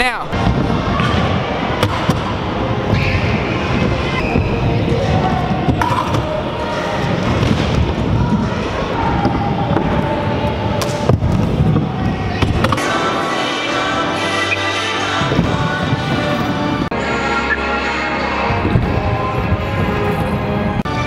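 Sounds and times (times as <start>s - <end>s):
crowd chatter: 0.3s - 21.0s.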